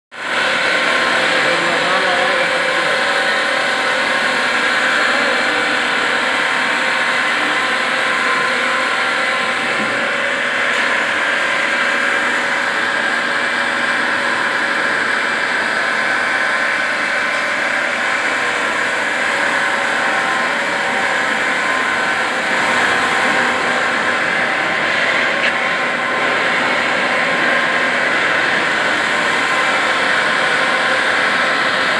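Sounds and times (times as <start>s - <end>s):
machinery droning: 0.2s - 31.9s.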